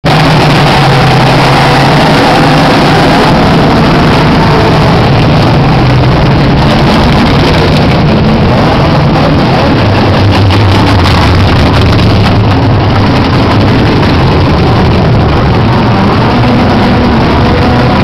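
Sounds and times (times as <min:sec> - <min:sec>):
loud rough car engines running: 0:00.0 - 0:18.0.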